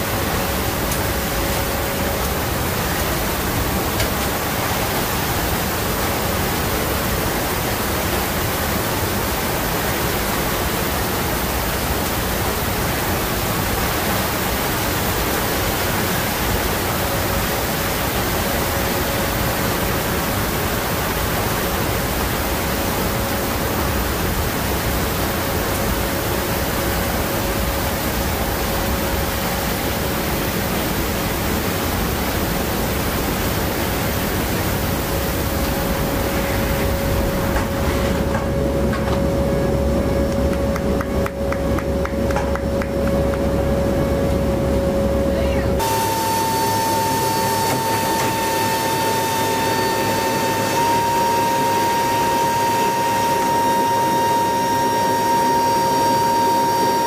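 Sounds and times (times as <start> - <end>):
aircraft engine hum: 0.0 - 57.0.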